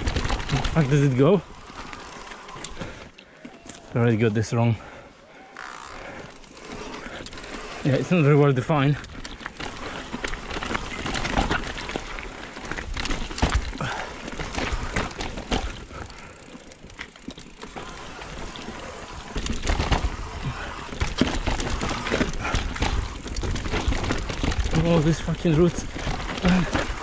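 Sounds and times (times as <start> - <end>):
bike clattering over bumps: 0.0 - 3.6, 5.6 - 27.0
bike tyres on dirt: 0.0 - 27.0.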